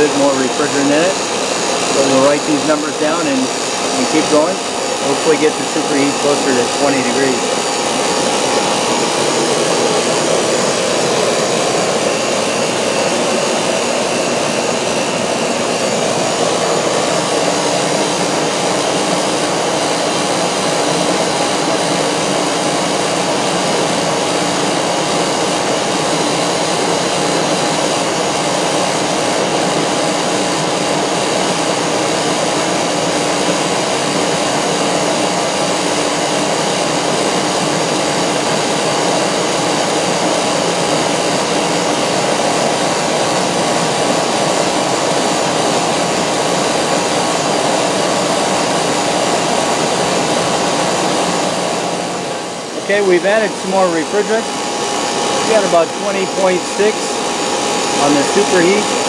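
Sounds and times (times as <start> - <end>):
air conditioner unit running: 0.0 - 59.0.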